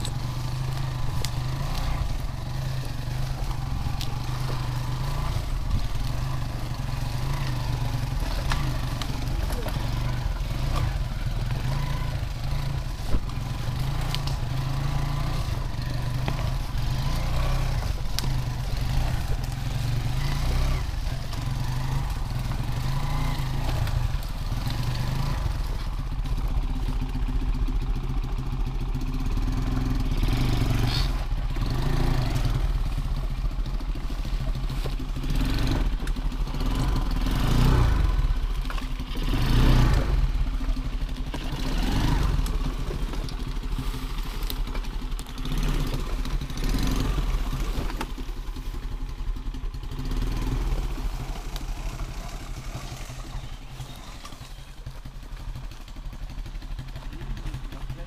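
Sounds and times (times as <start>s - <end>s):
small motorcycle engine running: 0.0s - 58.0s.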